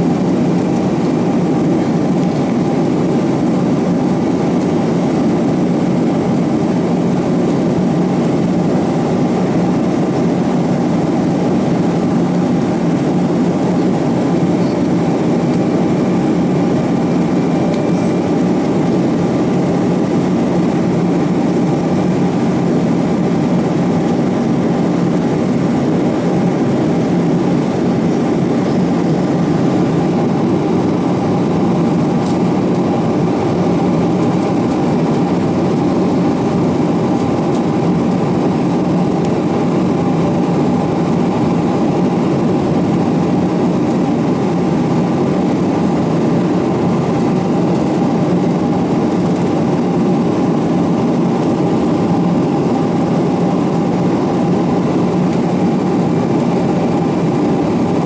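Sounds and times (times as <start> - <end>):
aircraft cabin engine rush: 0.0 - 58.0.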